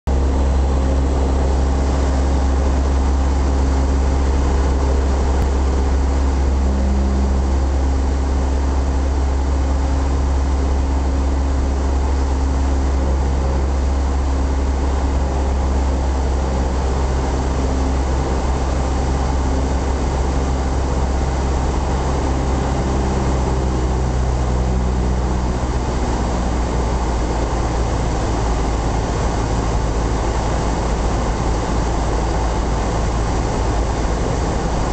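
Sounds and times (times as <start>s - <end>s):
airplane engine drone in cockpit: 0.1s - 34.9s.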